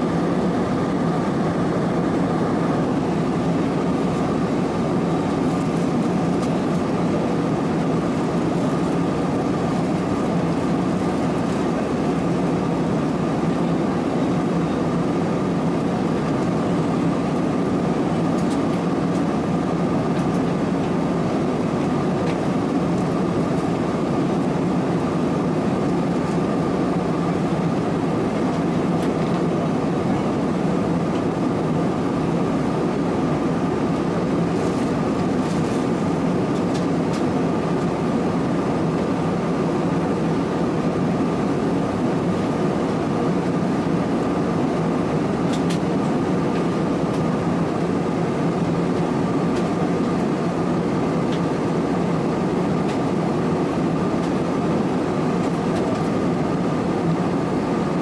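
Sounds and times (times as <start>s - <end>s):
air rushing along fuselage: 0.0s - 58.0s
jet engines: 0.0s - 58.0s.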